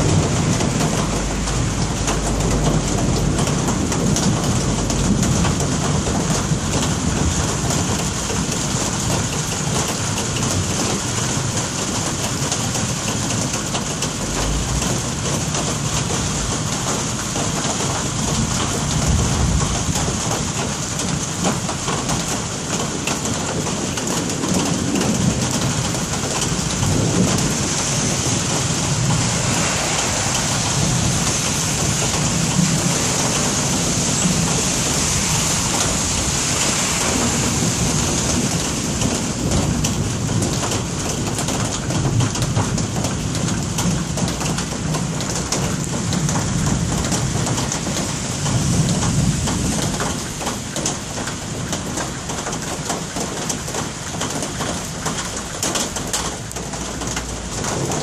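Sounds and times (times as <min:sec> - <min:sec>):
steady rain falling: 0:00.0 - 0:58.0
thunder rumbles: 0:00.0 - 0:58.0.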